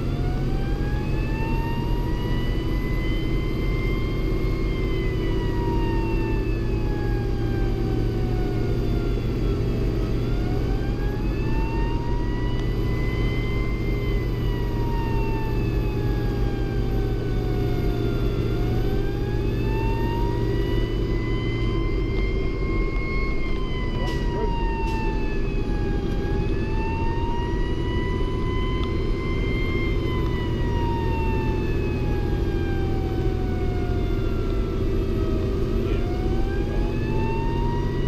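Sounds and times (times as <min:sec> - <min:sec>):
fire engine wail siren: 0:00.0 - 0:38.0
truck engine running: 0:00.0 - 0:38.0.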